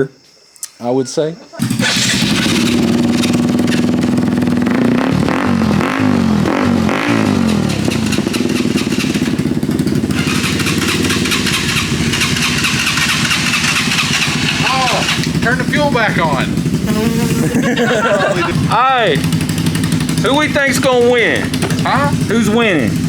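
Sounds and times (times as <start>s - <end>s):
mini-bike engine revving: 1.6s - 23.0s.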